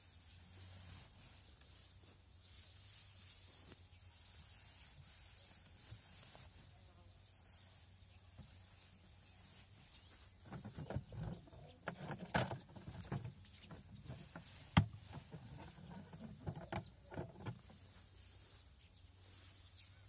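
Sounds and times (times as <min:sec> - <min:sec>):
hay rustling: 0:00.0 - 0:11.8, 0:12.6 - 0:20.0.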